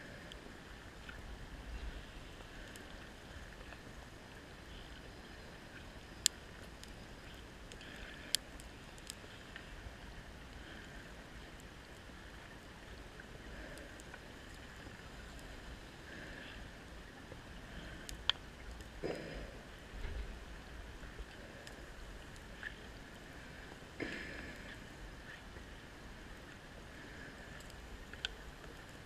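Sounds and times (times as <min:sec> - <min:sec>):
underwater hiss and rumble: 0:00.0 - 0:29.0.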